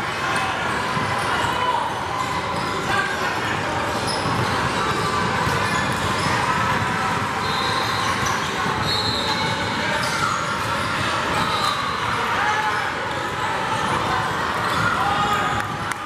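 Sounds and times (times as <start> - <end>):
crowd chatter in a gym: 0.0 - 16.0
sneaker squeaks: 0.4 - 15.7.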